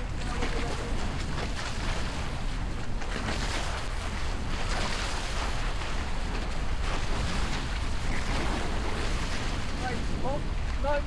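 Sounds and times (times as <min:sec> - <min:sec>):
water rushing and splashing: 0:00.0 - 0:11.0
wind buffeting microphone: 0:00.0 - 0:11.0.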